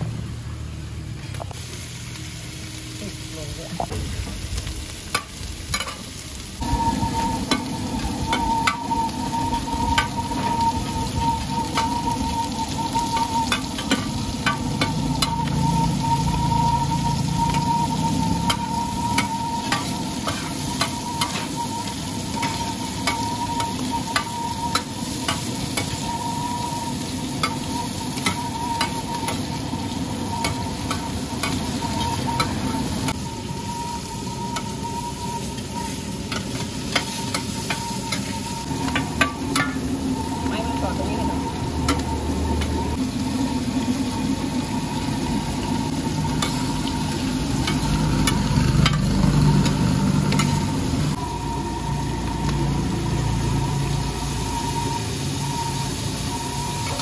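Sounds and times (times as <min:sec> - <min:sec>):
seafood sizzling on griddle: 0:00.0 - 0:57.0.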